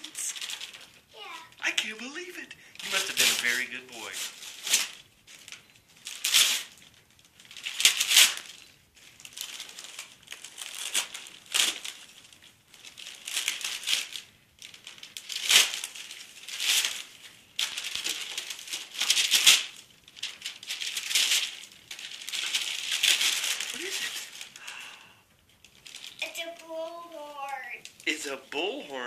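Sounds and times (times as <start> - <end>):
wrapping paper tearing and crumpling: 0.0 - 29.0.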